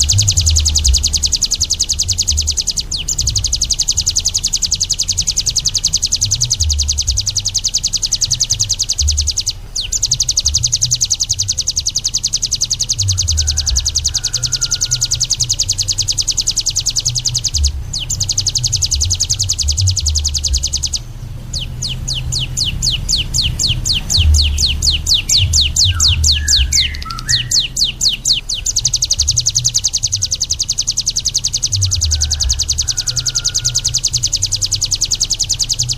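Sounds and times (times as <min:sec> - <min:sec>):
low rumble: 0:00.0 - 0:35.9
songbird trilling and whistling: 0:00.0 - 0:35.9.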